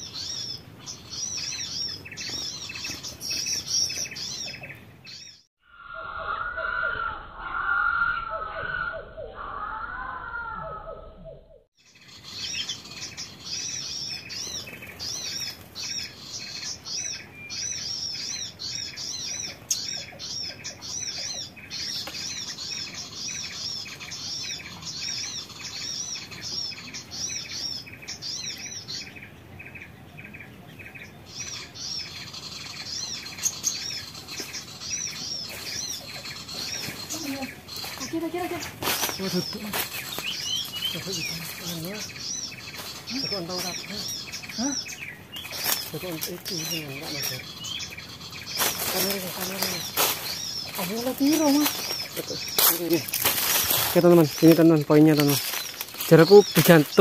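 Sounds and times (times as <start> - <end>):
songbirds twittering: 0.0 - 57.0.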